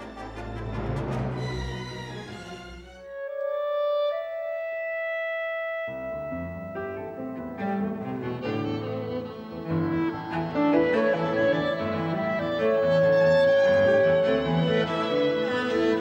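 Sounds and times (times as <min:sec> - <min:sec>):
orchestral bowed strings: 0:00.0 - 0:04.1, 0:05.9 - 0:16.0.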